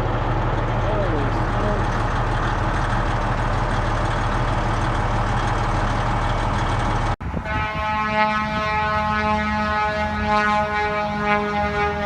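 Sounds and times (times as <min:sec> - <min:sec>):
heavy engine idling: 0:00.0 - 0:12.0.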